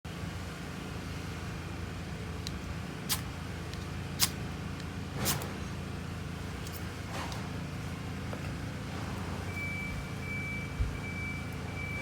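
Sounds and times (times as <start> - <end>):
truck engine rumble: 0.4 - 12.0.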